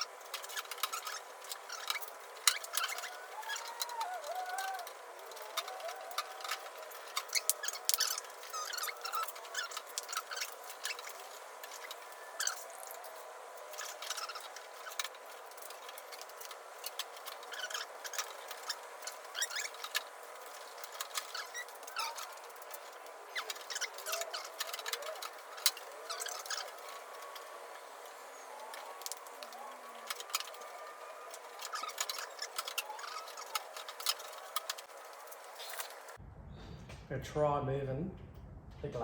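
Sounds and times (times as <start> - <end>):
short squeaks: 0.0 - 36.2.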